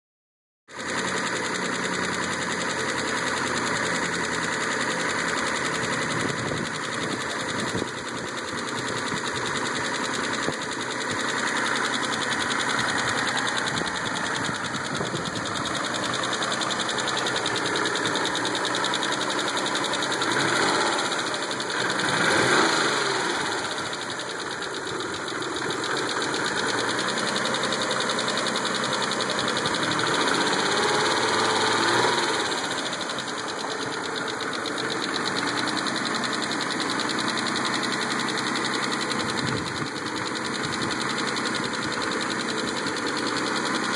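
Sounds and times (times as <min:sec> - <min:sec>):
car engine idling: 0:00.7 - 0:43.9
valvetrain ticking: 0:00.9 - 0:43.9.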